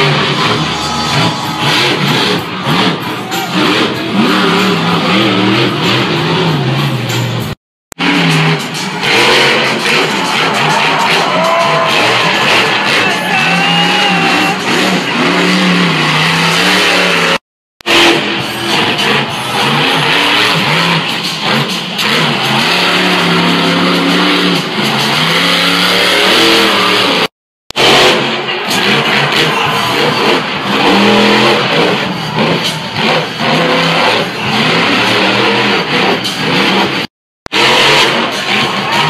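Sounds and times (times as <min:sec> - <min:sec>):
monster truck engine revving: 0:00.0 - 0:39.0.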